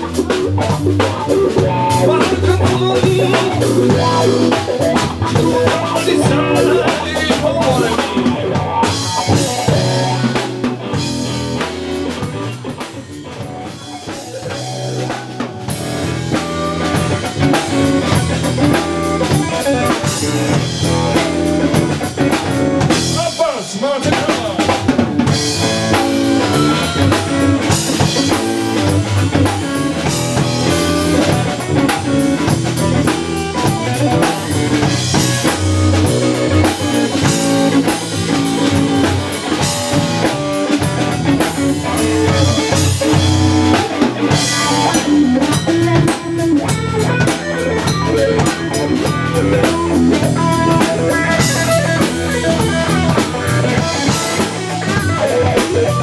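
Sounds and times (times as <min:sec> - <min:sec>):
blues-rock band playing: 0:00.0 - 0:56.0
drum kit beat: 0:00.0 - 0:56.0
electric guitar: 0:00.0 - 0:56.0.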